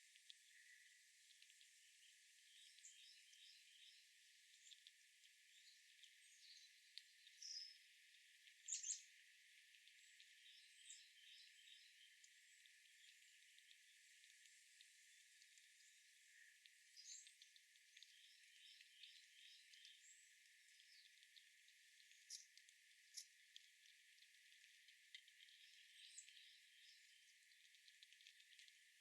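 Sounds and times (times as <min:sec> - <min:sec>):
small birds chirping: 0:00.3 - 0:28.8.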